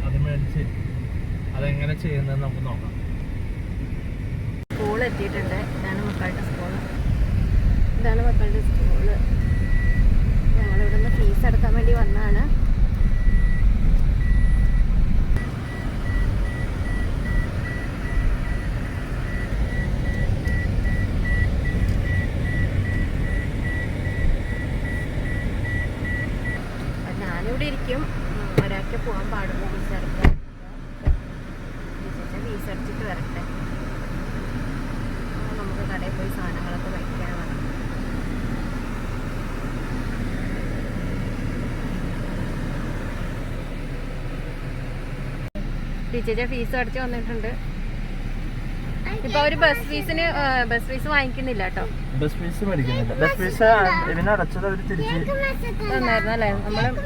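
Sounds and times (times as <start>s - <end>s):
car engine rumbling: 0.0s - 57.0s.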